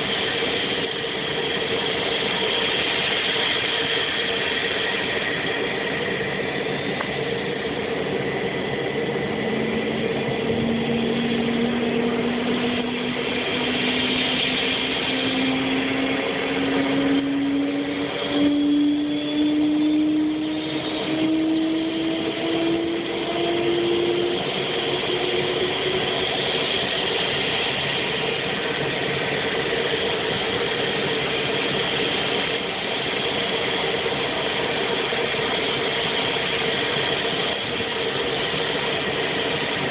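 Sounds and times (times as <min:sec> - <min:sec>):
turboprop engine idling: 0:00.0 - 0:39.9.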